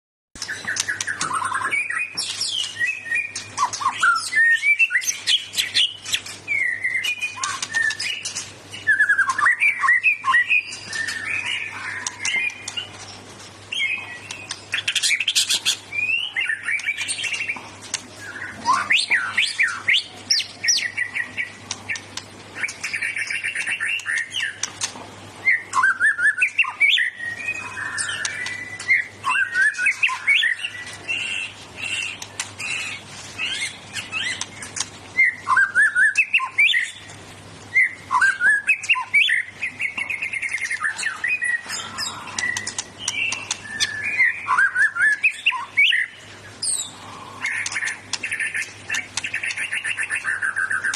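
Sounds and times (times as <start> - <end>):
bird singing loudly: 0.4 - 12.9, 13.7 - 17.6, 18.2 - 22.0, 25.4 - 34.4, 35.2 - 37.0, 37.7 - 50.9.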